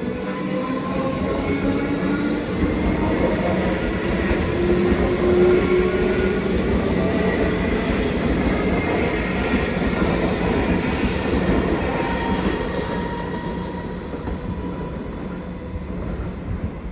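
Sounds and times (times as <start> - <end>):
electric train rumbling on rails: 0.0 - 16.9.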